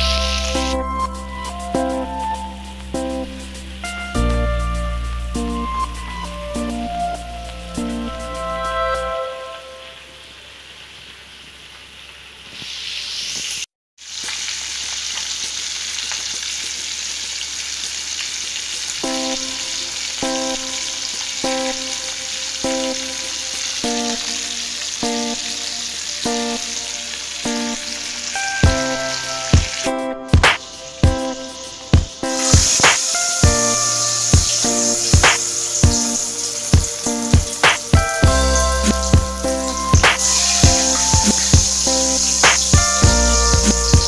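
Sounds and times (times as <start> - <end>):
meat sizzling in oil: 0.0 - 1.2, 9.8 - 44.0.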